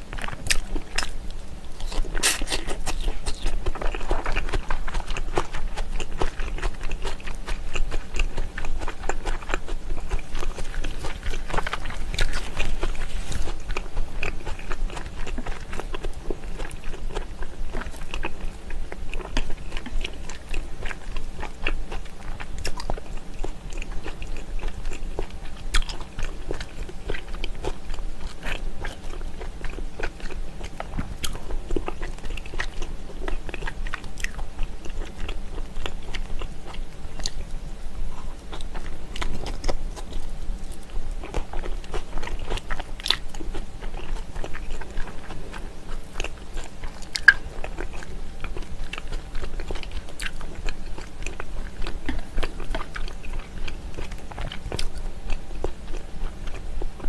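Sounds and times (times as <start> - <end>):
chewing with wet crunches: 0.0 - 57.0.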